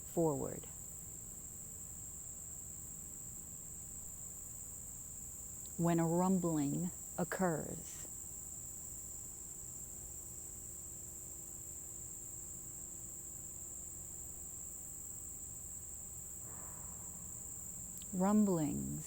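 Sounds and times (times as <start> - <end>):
insects chirring: 0.4 - 19.0.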